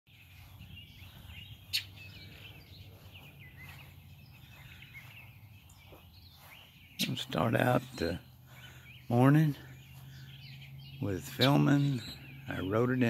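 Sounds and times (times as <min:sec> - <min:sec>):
birds chirping and singing: 0:00.1 - 0:13.0.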